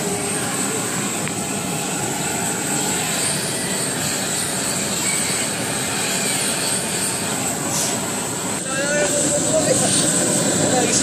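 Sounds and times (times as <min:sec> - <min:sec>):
blowtorch rushing hiss: 0:00.0 - 0:11.0.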